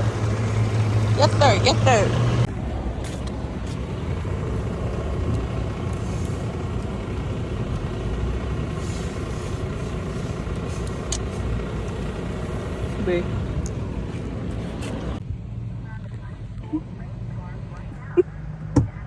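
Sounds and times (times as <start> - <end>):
road vehicle engine rumble: 0.0 - 19.0.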